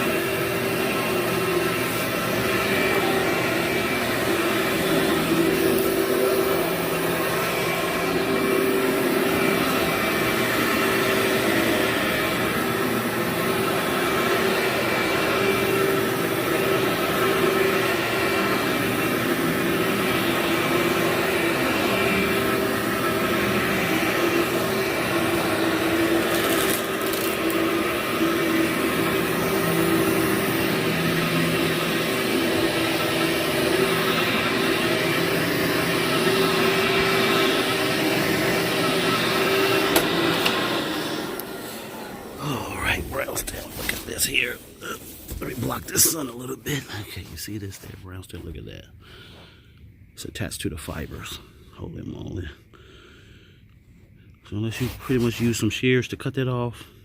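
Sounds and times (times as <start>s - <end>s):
vacuum cleaner running: 0.0s - 48.5s, 54.6s - 55.7s.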